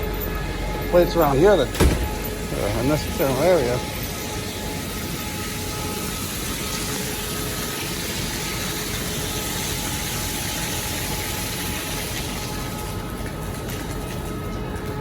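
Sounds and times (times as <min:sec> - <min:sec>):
water rushing into a drain: 0:01.4 - 0:14.6.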